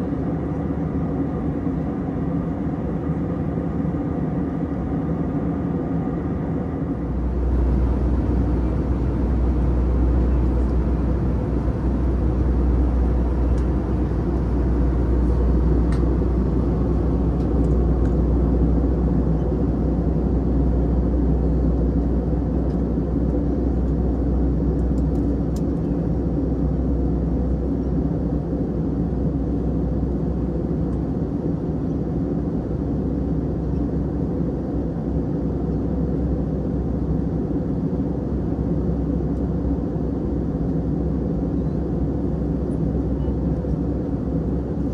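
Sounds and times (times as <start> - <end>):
airflow over fuselage: 0.0 - 44.9
airplane engine drone: 0.0 - 44.9
low cabin rumble: 0.0 - 44.9.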